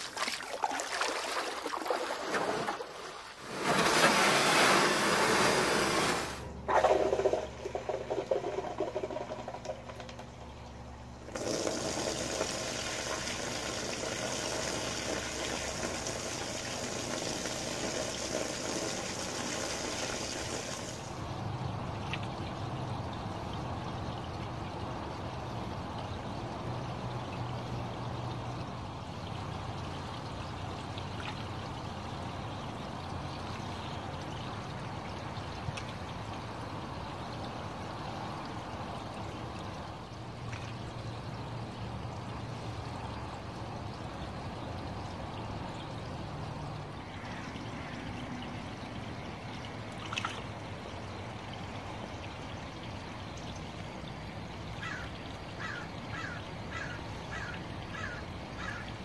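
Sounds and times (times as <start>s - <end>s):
water trickling into a pond: 0.0s - 5.4s, 6.3s - 59.0s.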